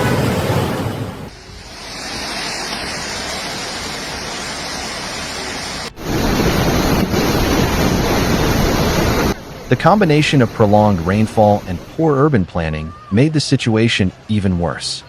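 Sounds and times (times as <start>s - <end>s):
floodwater rushing: 0.0s - 12.2s.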